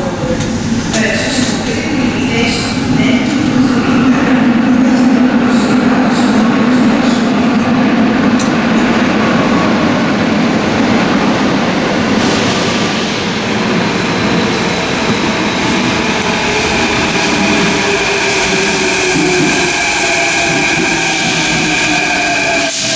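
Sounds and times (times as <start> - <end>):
metro train rumbling: 0.0 - 22.9
train high whine: 0.0 - 22.9.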